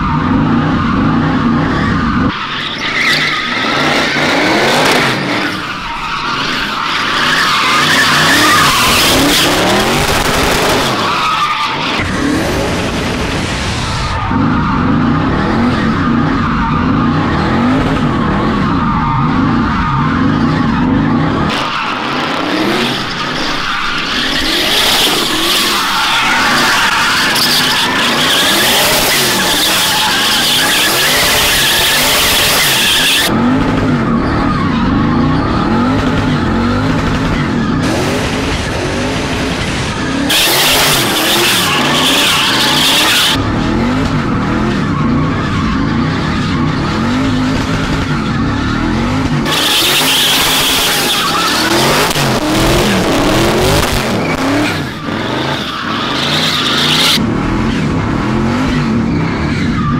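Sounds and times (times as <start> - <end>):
tyres squealing: 0.0 - 12.3, 14.1 - 37.9, 39.8 - 57.2
car engine revving: 0.0 - 59.9.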